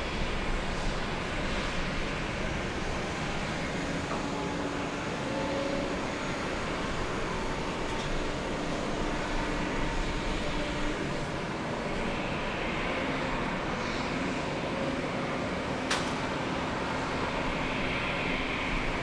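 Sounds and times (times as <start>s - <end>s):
aircraft engine and machinery hum: 0.0s - 19.0s.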